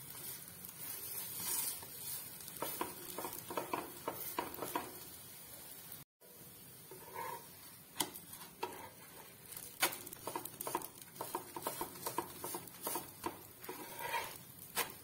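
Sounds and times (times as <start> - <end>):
metal spatula scraping a pan: 0.0 - 5.1, 6.8 - 15.0.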